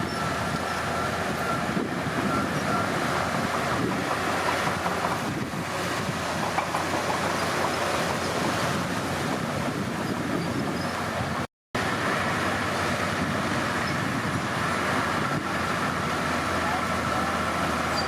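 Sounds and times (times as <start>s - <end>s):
diesel machinery running: 0.0s - 18.0s.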